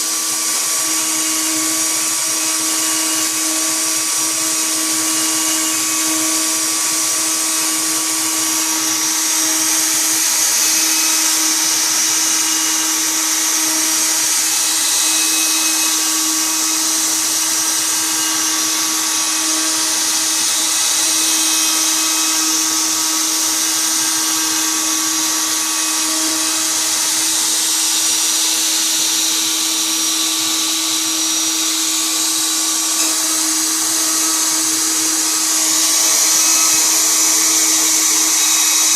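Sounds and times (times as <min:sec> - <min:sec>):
router whining: 0:00.0 - 0:38.9.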